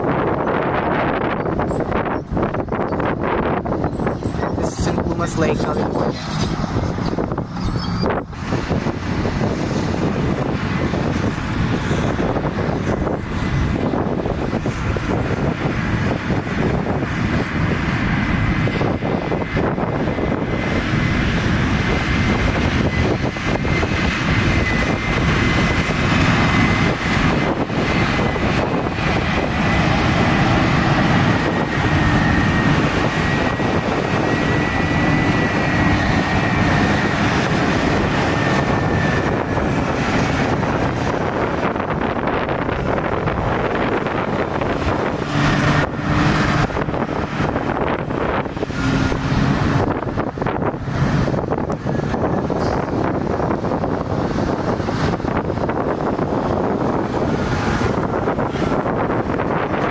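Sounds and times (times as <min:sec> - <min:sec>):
heavy machinery rumbling: 0:00.0 - 0:59.9
high whine: 0:00.0 - 0:59.9
wind buffeting microphone: 0:00.0 - 0:59.9.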